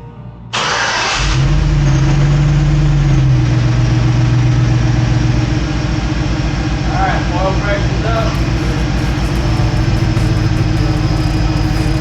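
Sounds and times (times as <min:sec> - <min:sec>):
truck engine starting and idling: 0:00.5 - 0:12.0.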